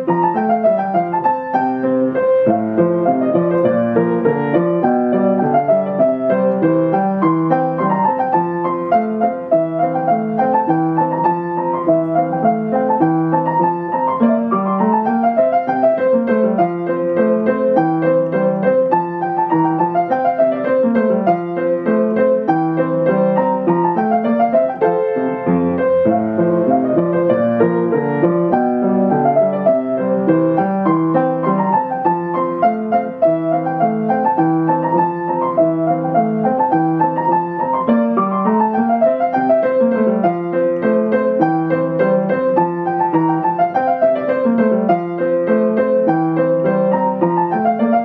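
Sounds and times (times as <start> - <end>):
upright piano playing classical piece: 0.0 - 48.0.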